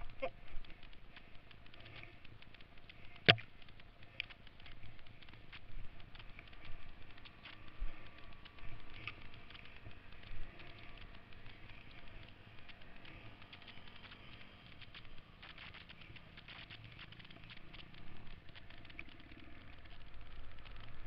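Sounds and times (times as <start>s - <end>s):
faint motorcycle engine hum: 0.0s - 21.0s.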